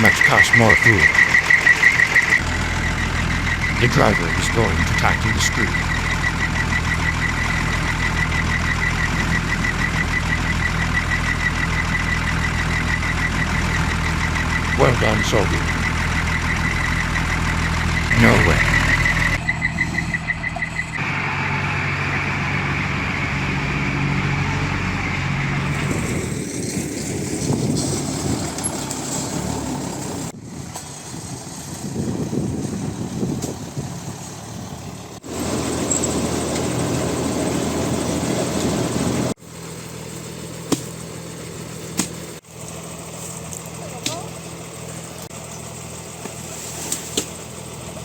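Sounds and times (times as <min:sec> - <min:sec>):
truck engine idling: 0:00.0 - 0:48.0.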